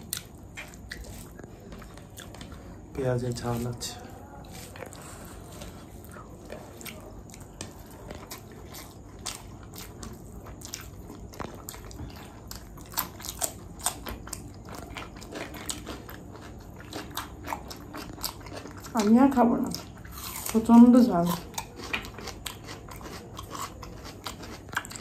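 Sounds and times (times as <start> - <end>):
person chewing crunchy food: 0.0 - 25.0.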